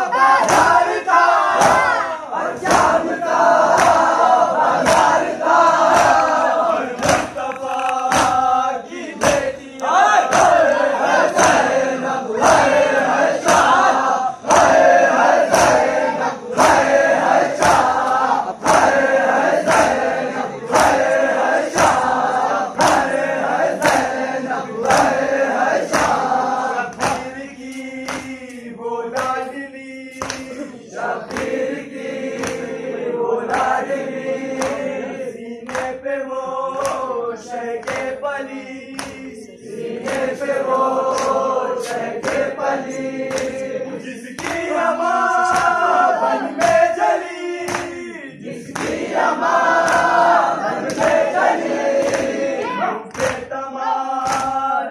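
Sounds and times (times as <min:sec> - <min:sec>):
hands slapping chests: 0:00.0 - 0:29.5, 0:30.1 - 0:35.0, 0:35.6 - 0:36.0, 0:36.7 - 0:37.2, 0:37.8 - 0:38.2, 0:38.9 - 0:53.5, 0:54.1 - 0:54.7
men chanting in unison: 0:00.0 - 0:54.9.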